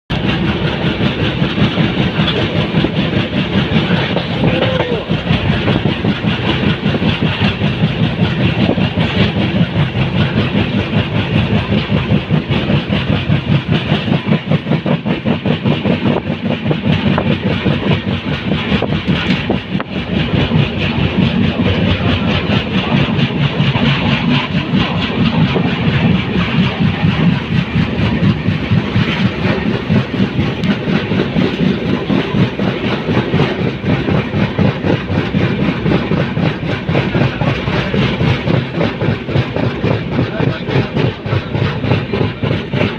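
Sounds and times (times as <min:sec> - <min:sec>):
train wheels rumbling on rails: 0:00.1 - 0:42.9.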